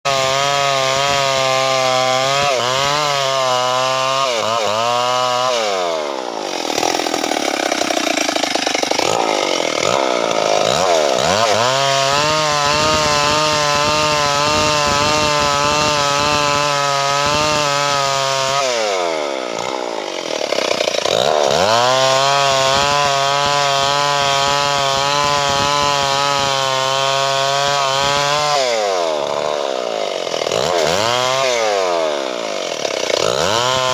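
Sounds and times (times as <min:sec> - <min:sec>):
chainsaw cutting a log: 0:00.0 - 0:33.9.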